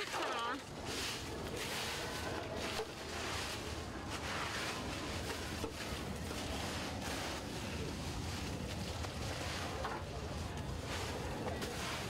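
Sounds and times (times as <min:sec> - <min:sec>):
leaves brushed on concrete: 0:00.0 - 0:12.0.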